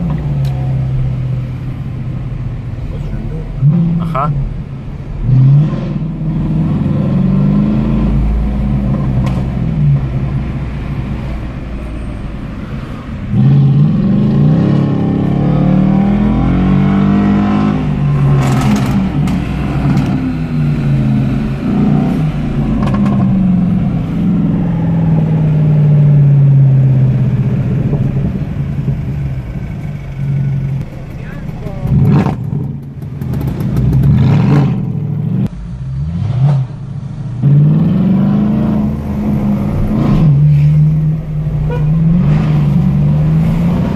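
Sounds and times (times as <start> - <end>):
car exhaust revving and accelerating: 0.0 - 11.8, 12.4 - 43.9.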